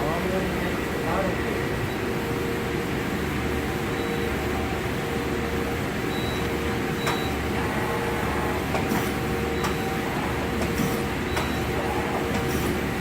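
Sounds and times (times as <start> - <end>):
lathe machine hum with tones: 0.2 - 13.0.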